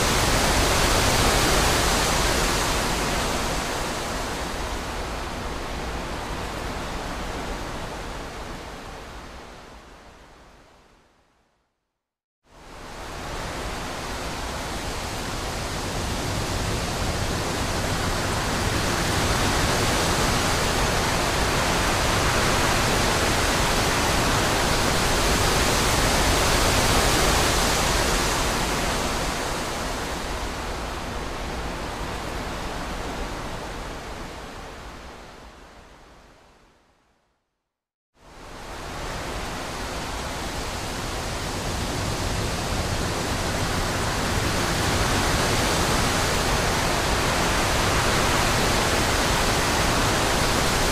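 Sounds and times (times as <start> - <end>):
wind blowing through trees: 0.0 - 11.6, 12.5 - 37.4, 38.2 - 50.9.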